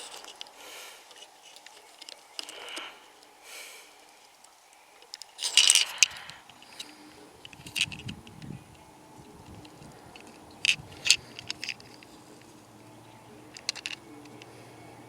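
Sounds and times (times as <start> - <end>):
toy truck parts clicking: 0.0 - 3.0, 4.4 - 15.0.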